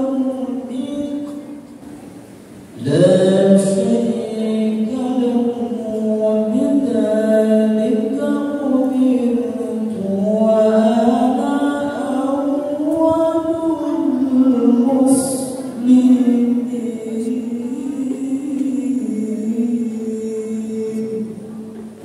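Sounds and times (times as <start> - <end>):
man reciting melodiously: 0.0 - 1.8, 2.7 - 22.0.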